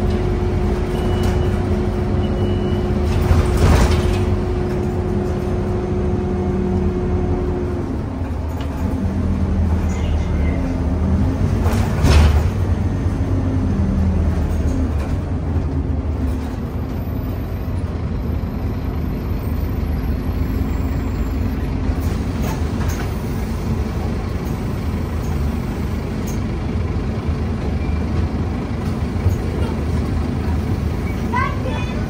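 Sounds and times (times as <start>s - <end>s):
bus body and road noise: 0.0s - 32.0s
bus diesel engine droning: 0.0s - 32.0s.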